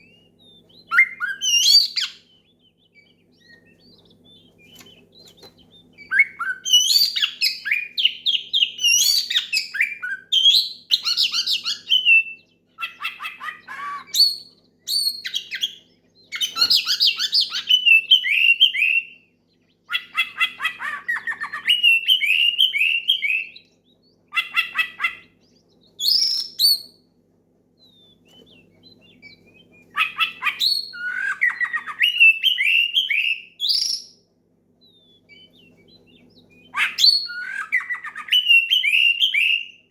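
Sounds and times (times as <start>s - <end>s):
magpie-robin singing: 0.0s - 27.1s, 27.8s - 39.9s.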